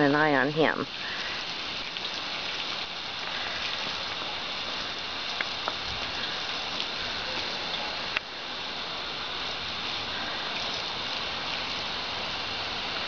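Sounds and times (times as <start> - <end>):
garden hose water splashing: 0.0 - 13.0.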